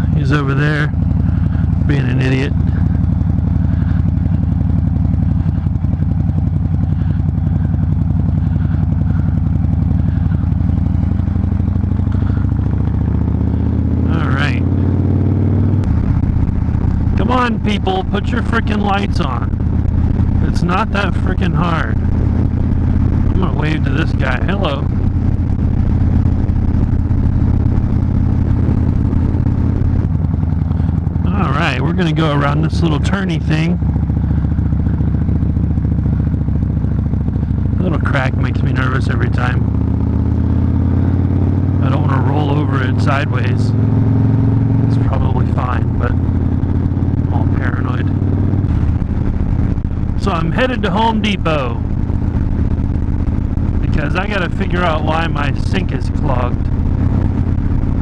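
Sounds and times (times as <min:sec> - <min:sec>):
motorcycle engine pulsing exhaust: 0:00.0 - 0:58.0.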